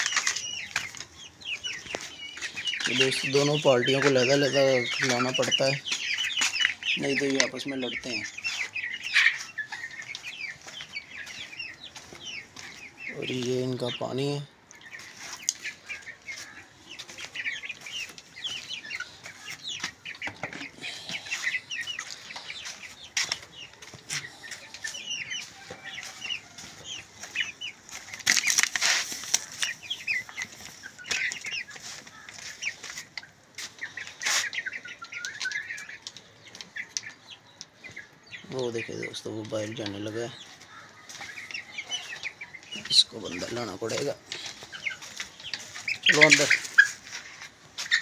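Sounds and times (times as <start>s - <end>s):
chickens clucking: 0.0s - 48.0s
chicks peeping: 0.0s - 48.0s.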